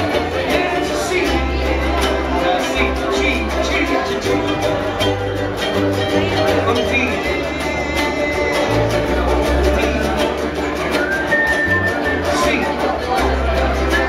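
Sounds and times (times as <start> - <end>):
low bass notes: 0.0 - 14.0
ukuleles strumming chords: 0.0 - 14.0.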